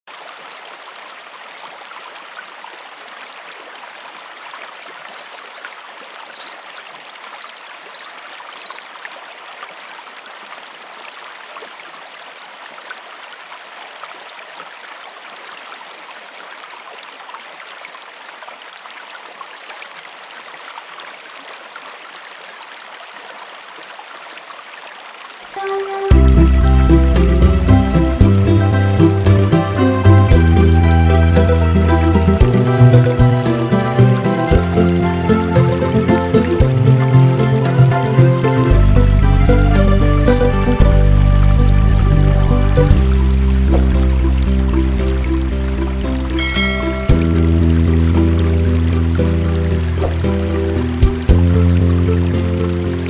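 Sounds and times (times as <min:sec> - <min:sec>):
running water hiss: 0:00.2 - 0:53.0.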